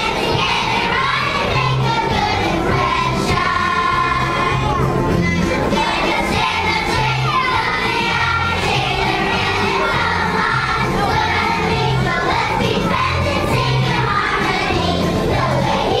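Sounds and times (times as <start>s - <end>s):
recorded backing music: 0.0s - 16.0s
young children singing: 0.0s - 16.0s.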